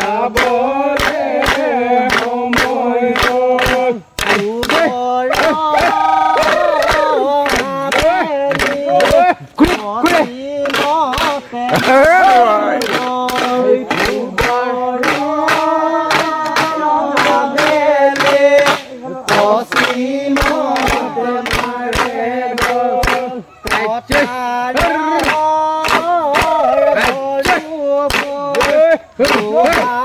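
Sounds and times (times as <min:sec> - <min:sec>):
group of voices singing: 0:00.0 - 0:30.0
percussion beat: 0:00.0 - 0:30.0.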